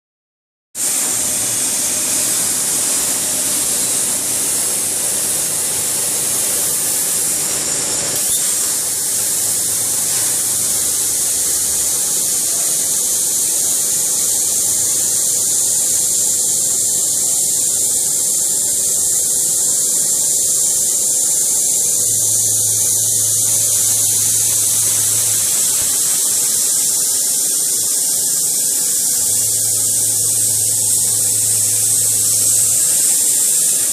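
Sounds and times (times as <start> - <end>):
plasma torch hissing: 0.8 - 33.9.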